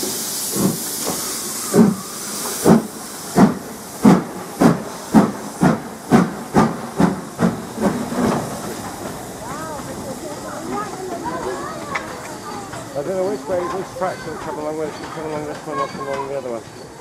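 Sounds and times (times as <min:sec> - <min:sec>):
steam hissing: 0:00.0 - 0:17.0
steam locomotive exhaust chuffs: 0:00.0 - 0:17.0.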